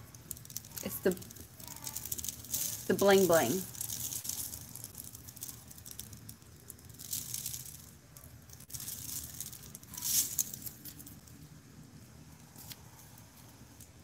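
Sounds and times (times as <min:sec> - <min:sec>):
glitter rattling in plastic shaker: 0:00.0 - 0:11.4.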